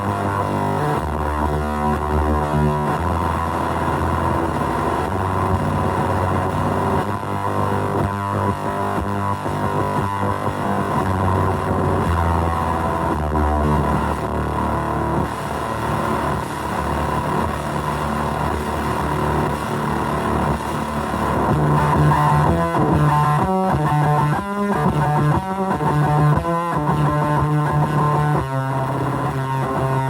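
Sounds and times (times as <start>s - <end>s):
fuzz electric guitar: 0.0s - 30.0s.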